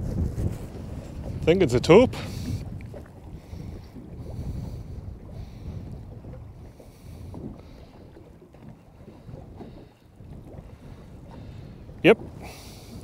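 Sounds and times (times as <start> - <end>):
water sloshing against boat hull: 0.0 - 13.0
wind buffeting microphone: 0.0 - 13.0.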